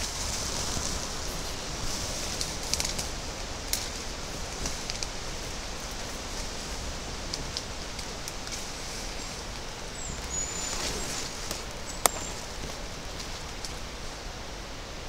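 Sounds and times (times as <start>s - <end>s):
twigs crackling: 0.0s - 14.2s
people pushing through brush: 0.0s - 14.4s
wind hissing in foliage: 0.0s - 15.0s.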